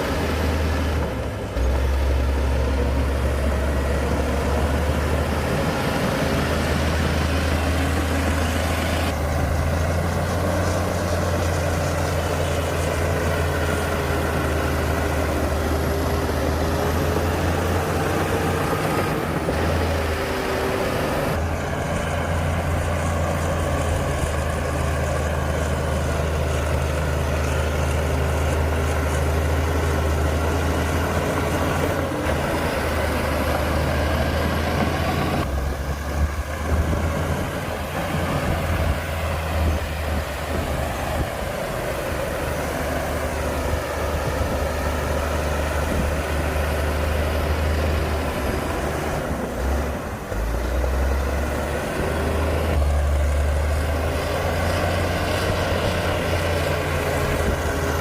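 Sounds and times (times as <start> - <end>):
heavy machinery diesel engine rumbling: 0.0 - 58.0.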